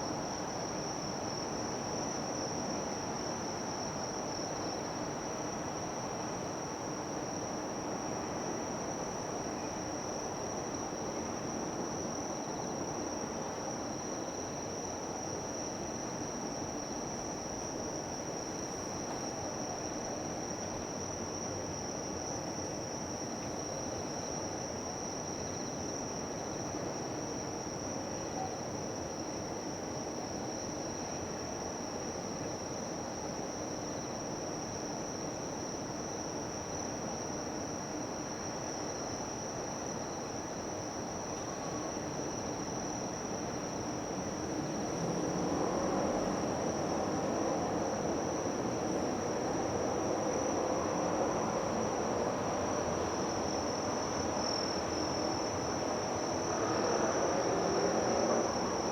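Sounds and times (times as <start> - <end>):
high-pitched insect chorus: 8.4 - 58.9.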